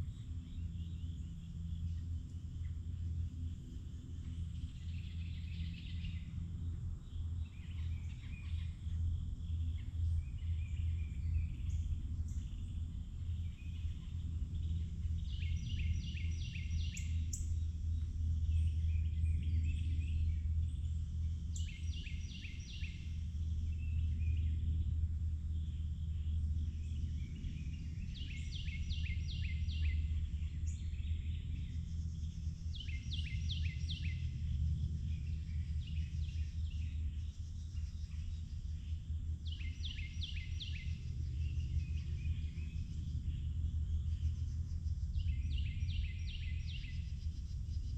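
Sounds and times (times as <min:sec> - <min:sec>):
steady low rumble: 0:00.0 - 0:47.9.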